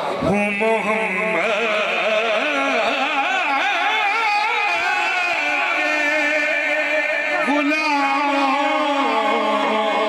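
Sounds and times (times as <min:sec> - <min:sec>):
man singing unaccompanied: 0:00.2 - 0:10.0.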